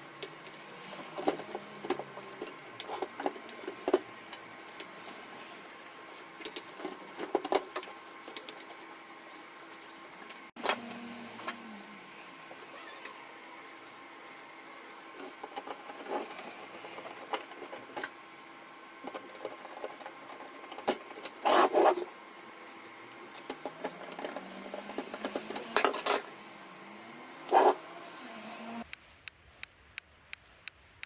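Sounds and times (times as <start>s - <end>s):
printer mechanical hum: 0.0s - 28.9s.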